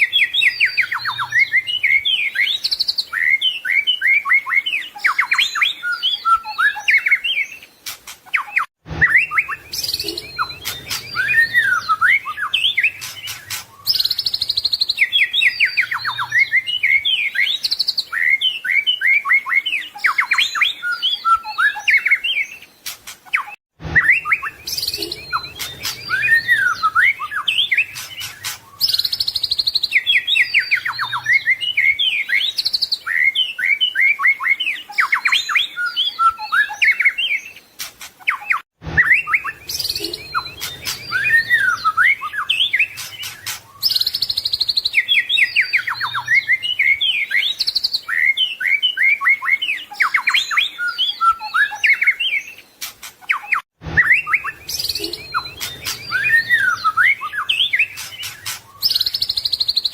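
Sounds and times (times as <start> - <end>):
bird singing trills and whistles: 0.0 - 59.9.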